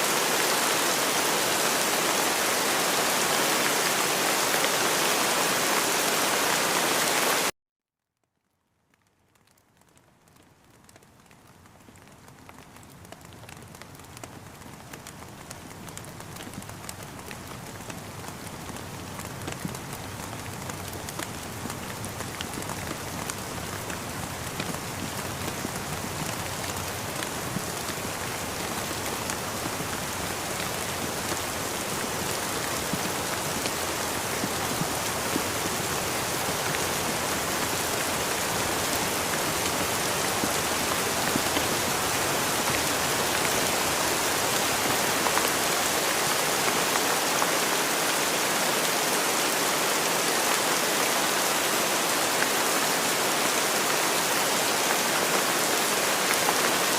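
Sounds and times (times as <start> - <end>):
steady rain with drops tapping: 0.0 - 7.5, 8.2 - 56.9.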